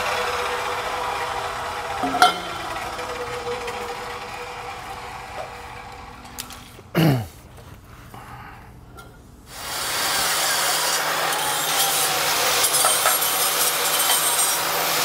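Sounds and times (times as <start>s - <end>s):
angle grinder grinding metal pipe: 0.0s - 6.9s, 9.5s - 15.0s.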